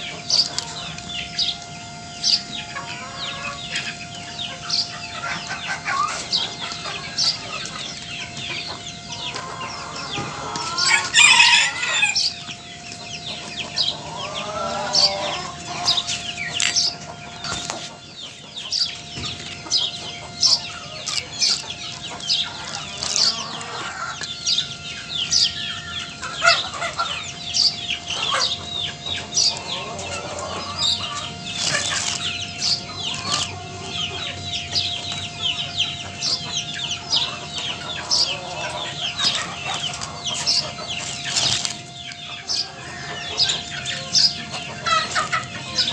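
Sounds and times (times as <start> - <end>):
chickens clucking: 0.0 - 45.9.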